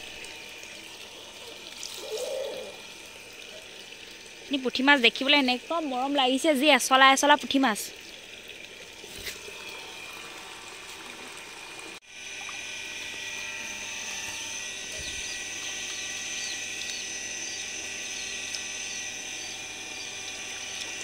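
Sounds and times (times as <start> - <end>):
small motor whining: 0.0 - 4.5, 8.1 - 21.0.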